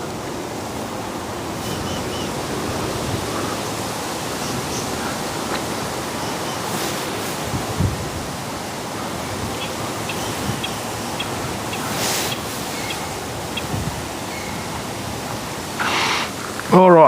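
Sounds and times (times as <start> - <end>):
rushing background noise: 0.0 - 17.0.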